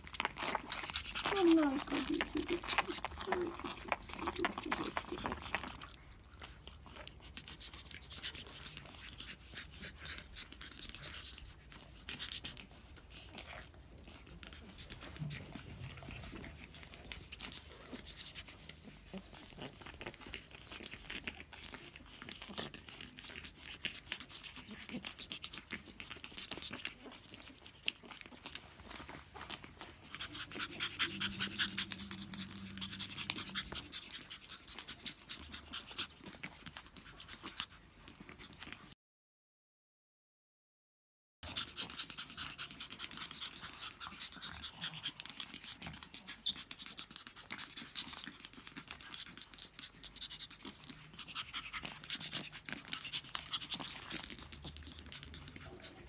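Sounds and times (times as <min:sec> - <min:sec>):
puppies scuffling and snuffling: 0:00.0 - 0:39.0, 0:41.4 - 0:56.0
puppy panting: 0:00.0 - 0:39.0, 0:41.4 - 0:56.0
puppy vocalizing: 0:00.0 - 0:39.0, 0:41.4 - 0:56.0.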